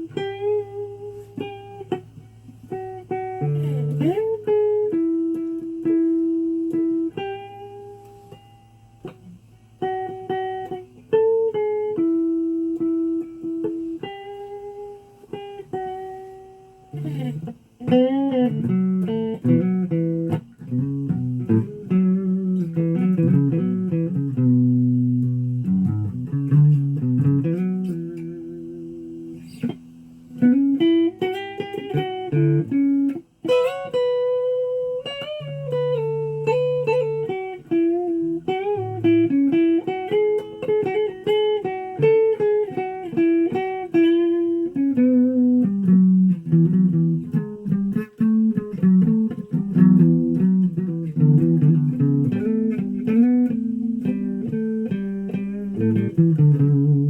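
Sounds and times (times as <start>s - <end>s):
guitar melody: 0.0s - 57.0s.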